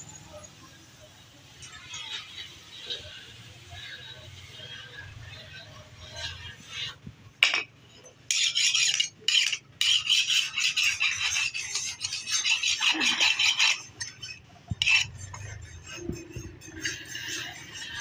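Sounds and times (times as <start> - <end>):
file rasping on metal: 1.9 - 18.0.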